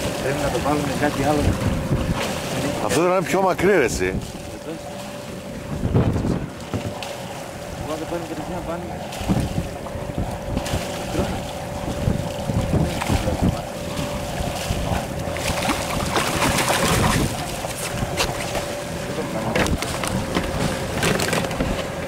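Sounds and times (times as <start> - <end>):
steady hum: 0.0 - 22.0
water rushing along hull: 0.0 - 22.0
wind buffeting microphone: 0.0 - 22.0.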